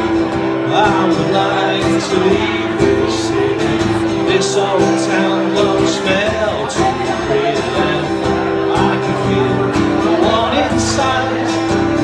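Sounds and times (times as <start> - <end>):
acoustic guitar strumming: 0.0 - 12.0
man singing into microphone: 0.4 - 12.0.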